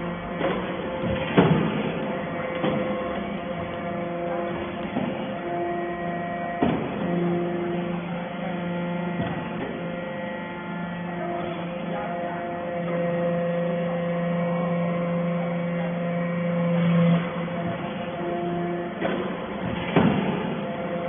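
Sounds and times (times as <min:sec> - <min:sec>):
baler machine hum: 0:00.0 - 0:21.0.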